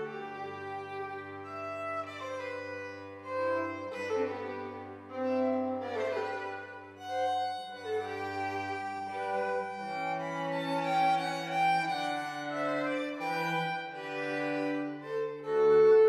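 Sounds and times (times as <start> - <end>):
cellos and double bass: 0.0 - 16.0
violins holding notes: 0.0 - 16.0.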